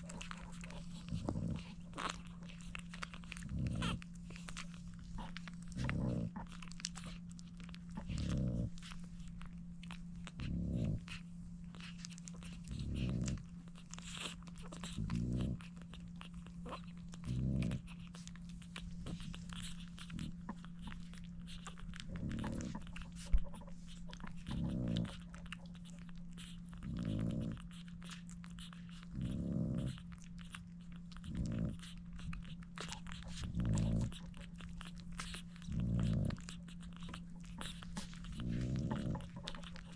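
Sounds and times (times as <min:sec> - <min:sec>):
puppies suckling wet smacking: 0:00.0 - 0:39.9
steady low hum: 0:00.0 - 0:39.9.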